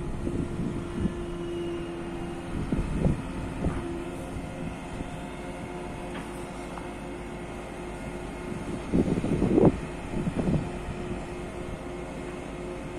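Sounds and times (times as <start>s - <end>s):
diesel engine running with whine: 0.0s - 12.9s.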